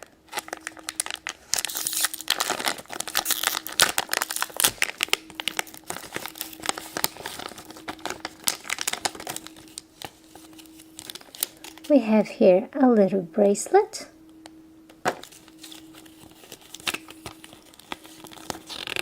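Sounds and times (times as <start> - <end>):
plastic packaging crinkling: 0.0 - 12.0, 15.0 - 19.0.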